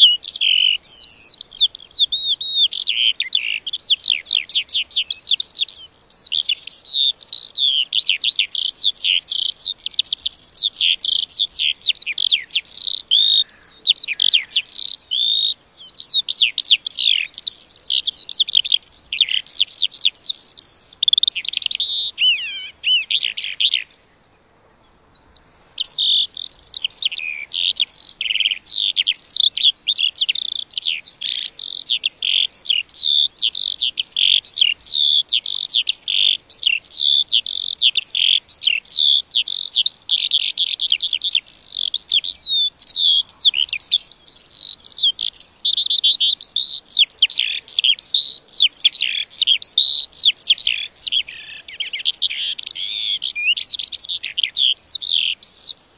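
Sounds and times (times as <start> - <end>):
lark singing: 0.0 - 55.9.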